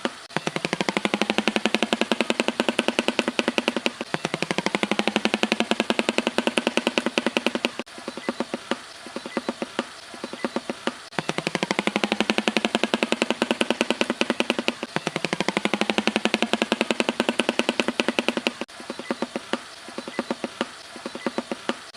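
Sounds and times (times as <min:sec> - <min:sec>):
bird clattering its bill: 0:00.0 - 0:21.9.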